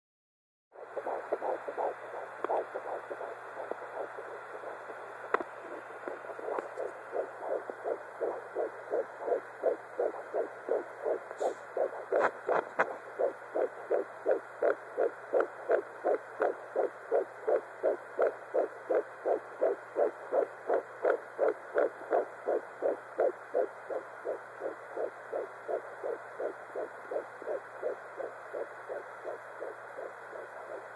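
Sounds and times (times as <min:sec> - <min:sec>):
fetal heartbeat on doppler: 0:00.7 - 0:30.9.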